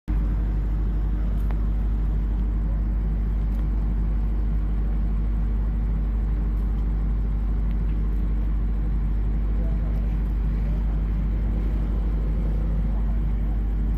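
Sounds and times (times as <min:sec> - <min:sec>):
low engine-like drone: 0:00.1 - 0:13.9.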